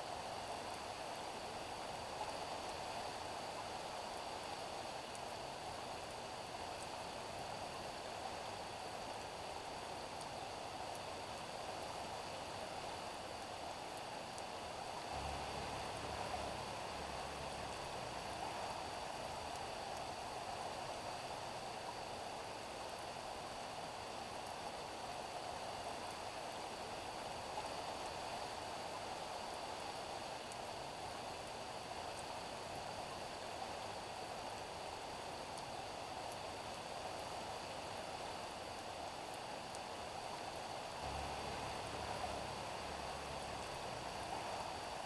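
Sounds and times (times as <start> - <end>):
rain falling on a street: 0.0 - 45.0.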